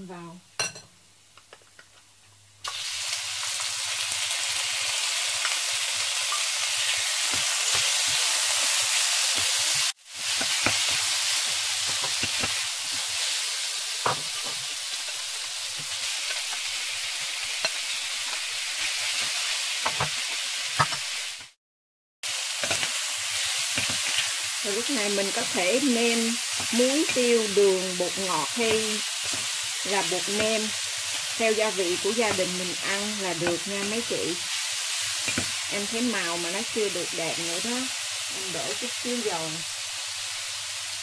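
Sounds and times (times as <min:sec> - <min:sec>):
shrimp sizzling in hot oil: 0:02.6 - 0:21.6, 0:22.2 - 0:41.0.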